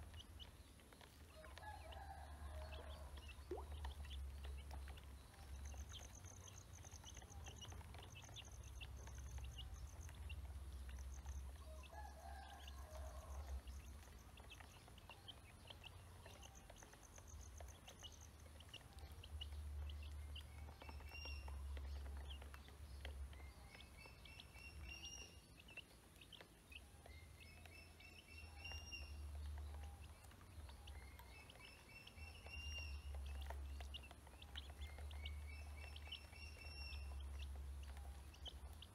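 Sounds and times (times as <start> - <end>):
ducklings and chicks peeping: 0.0 - 1.8, 2.6 - 38.9.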